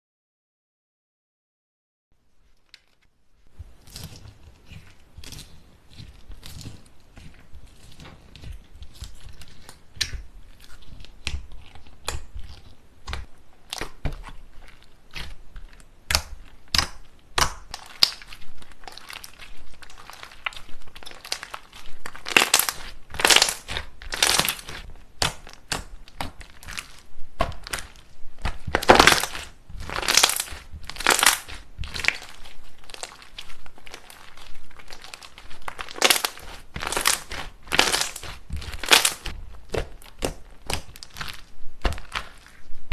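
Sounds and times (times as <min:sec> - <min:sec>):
slime squished by hand: 0:03.6 - 0:42.9.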